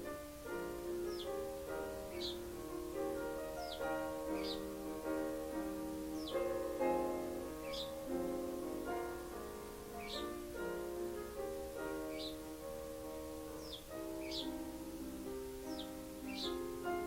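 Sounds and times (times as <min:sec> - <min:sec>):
piano chords: 0:00.0 - 0:17.0
sparrow chirping: 0:00.0 - 0:17.0.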